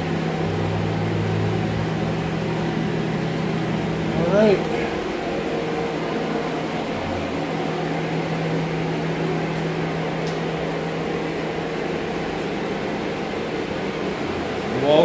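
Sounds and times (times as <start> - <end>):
air scrubber fan running: 0.0 - 15.0.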